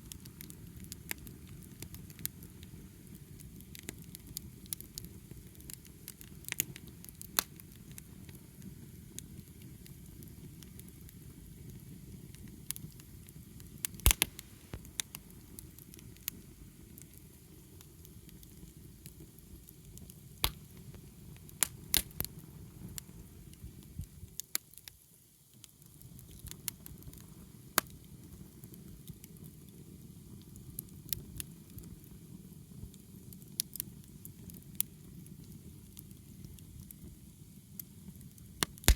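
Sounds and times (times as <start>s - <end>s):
fire crackles and pops: 0.0s - 38.9s.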